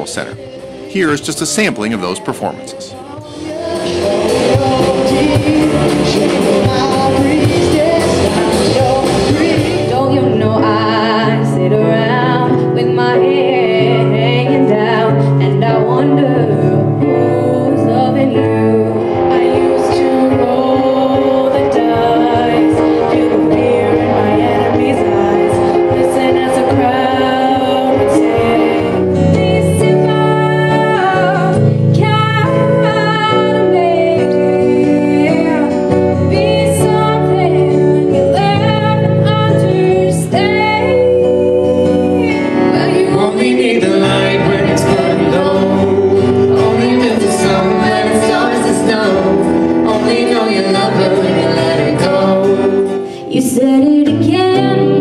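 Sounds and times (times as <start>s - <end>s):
live band accompaniment: 0.0s - 55.0s
woman singing: 1.6s - 55.0s.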